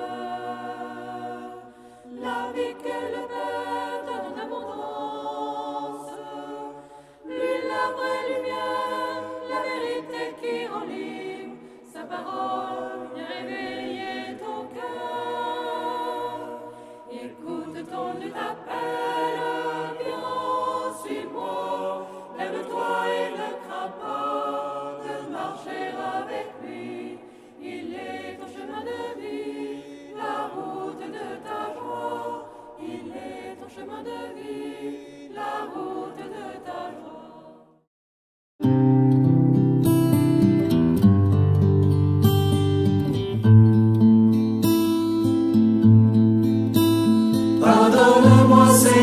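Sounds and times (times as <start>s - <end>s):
choir singing a hymn: 0.0s - 37.8s, 47.3s - 49.0s.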